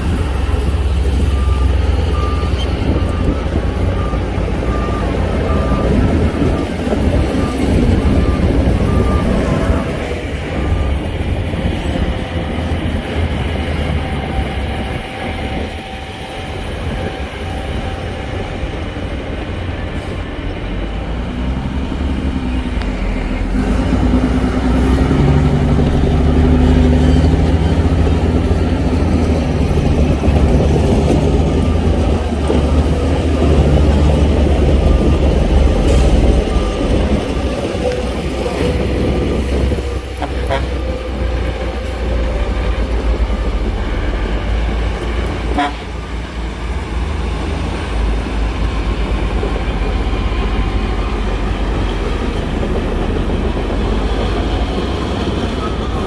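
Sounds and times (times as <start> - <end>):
diesel machinery engine rumble: 0.0 - 56.0.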